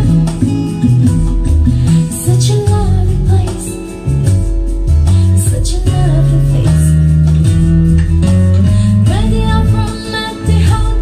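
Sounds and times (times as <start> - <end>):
loud music with guitar and bass: 0.0 - 11.0.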